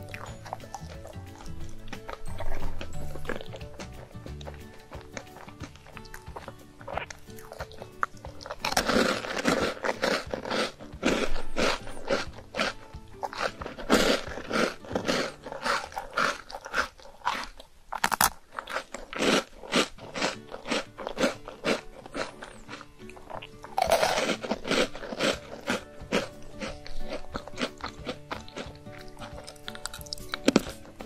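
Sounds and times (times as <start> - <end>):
background music: 0.0 - 16.9, 19.1 - 31.0
crisp snack crunching: 0.0 - 31.0.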